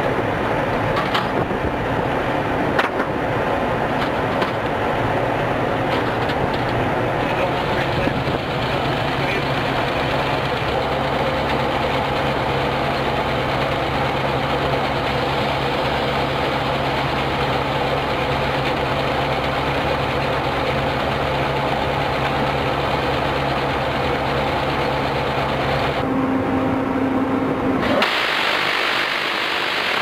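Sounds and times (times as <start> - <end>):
machinery drone: 0.0 - 30.0.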